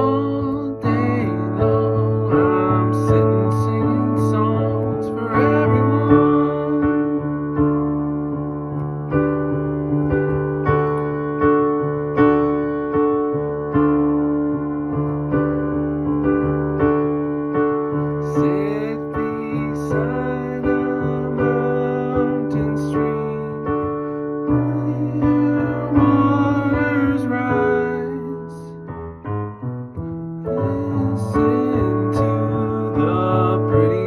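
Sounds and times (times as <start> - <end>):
electric piano chords: 0.0 - 34.0.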